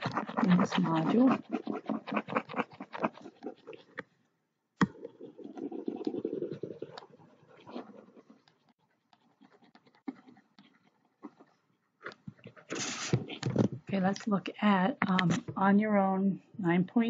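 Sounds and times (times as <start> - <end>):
stylus scratching and clicking: 0.0 - 4.2, 4.8 - 14.4, 15.0 - 15.6.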